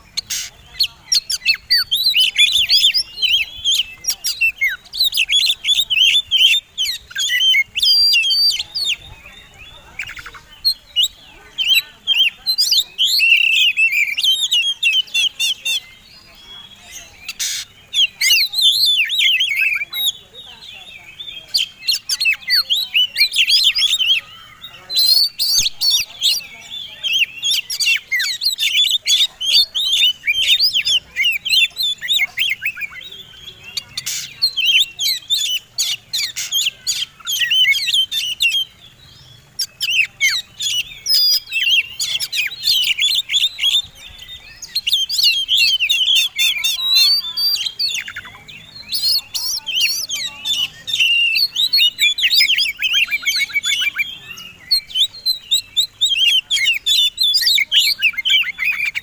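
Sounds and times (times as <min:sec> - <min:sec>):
songbird whistles and chattering: 0:00.0 - 0:59.0.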